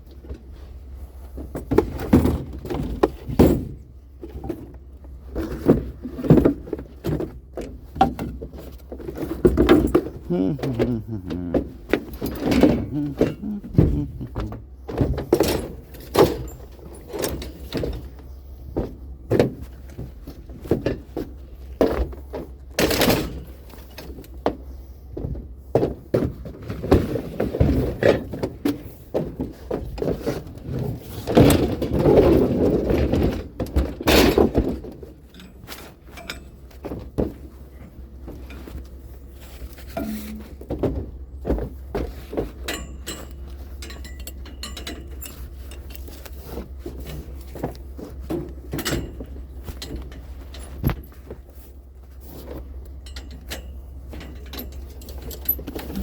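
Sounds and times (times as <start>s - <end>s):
steady low hum: 0.0s - 26.1s, 35.2s - 56.0s.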